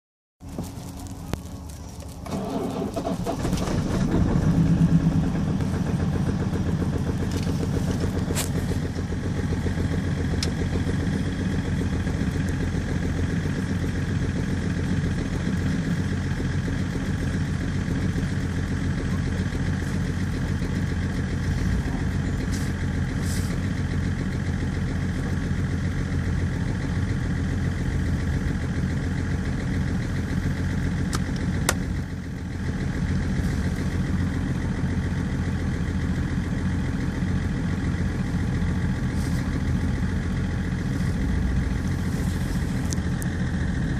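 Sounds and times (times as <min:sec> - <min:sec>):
diesel engine cold start idling: 0:02.1 - 0:43.9.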